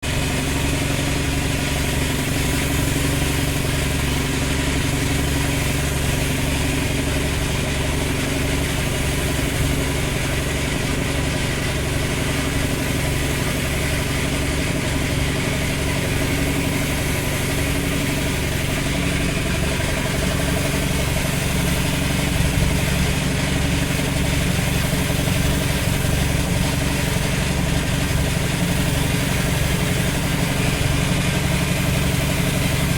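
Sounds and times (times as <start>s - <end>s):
motor humming: 0.0s - 32.9s.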